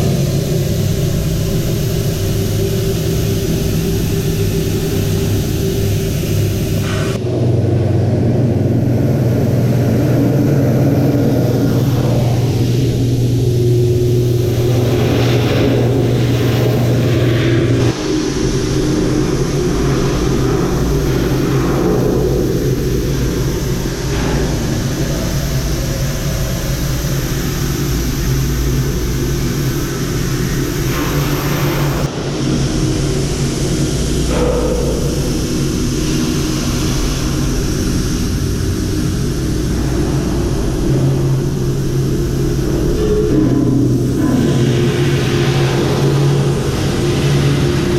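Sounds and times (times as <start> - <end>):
engine-like hum: 0.0 - 47.9.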